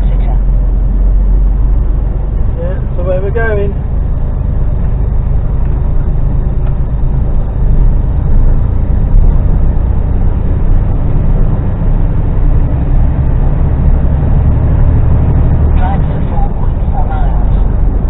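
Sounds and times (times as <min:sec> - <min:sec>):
lorry engine and road rumble: 0:00.0 - 0:18.0.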